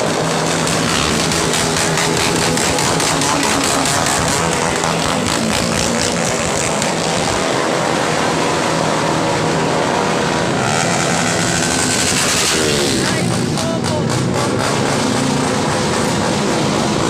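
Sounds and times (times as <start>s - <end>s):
engine through loud exhaust: 0.0s - 17.0s.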